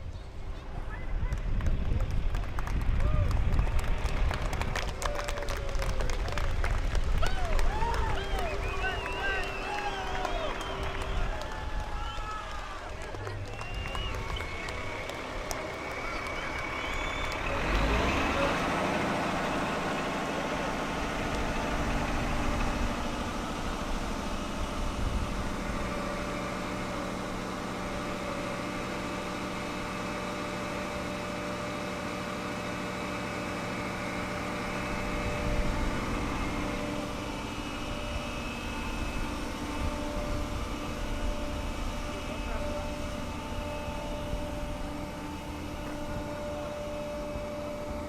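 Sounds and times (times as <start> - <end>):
heavy truck engine running: 0.0 - 48.0.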